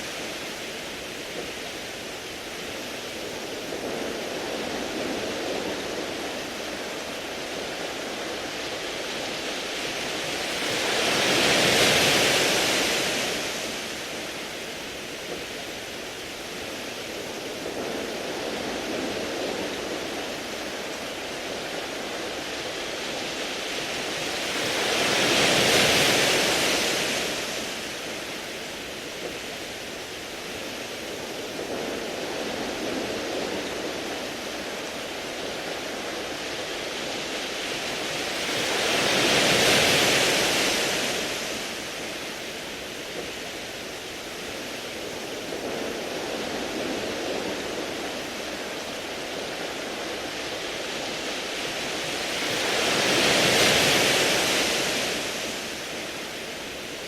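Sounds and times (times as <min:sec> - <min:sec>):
bigger waves: 0:00.0 - 0:57.0
waves washing over pebbles: 0:00.0 - 0:57.0.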